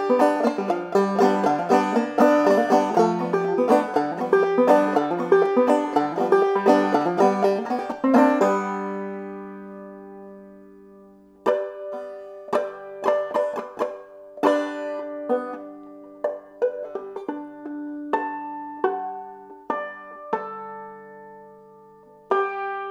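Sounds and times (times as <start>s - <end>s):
banjo picking: 0.0s - 22.9s.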